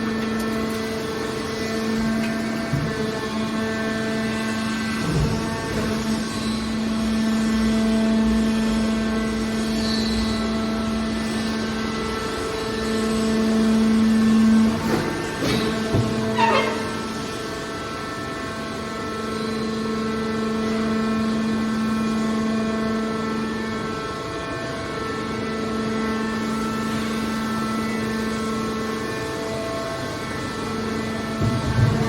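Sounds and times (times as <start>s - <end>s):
hydraulic power unit humming: 0.0s - 32.0s.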